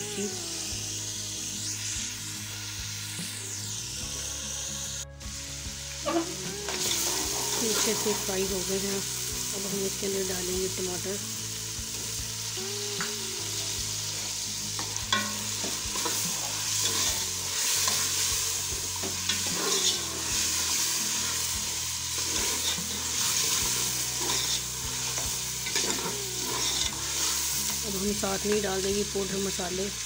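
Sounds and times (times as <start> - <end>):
tomatoes sizzling in hot oil: 0.0 - 30.0.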